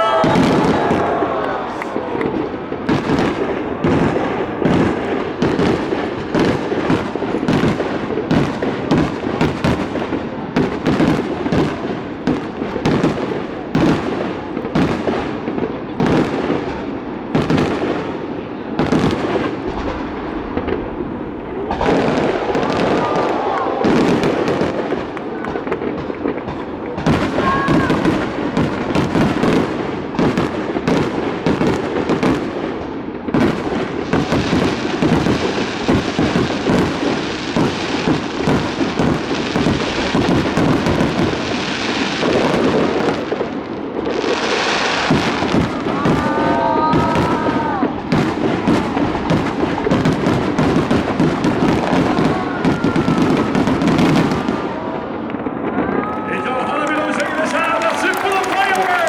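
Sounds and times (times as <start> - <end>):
fireworks bangs: 0.0 - 59.0
hissing crackle of fireworks: 0.0 - 59.0.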